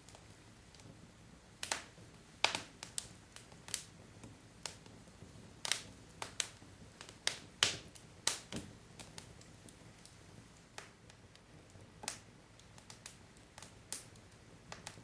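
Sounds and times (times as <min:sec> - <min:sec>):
soft hiss of flames: 0:00.0 - 0:15.0.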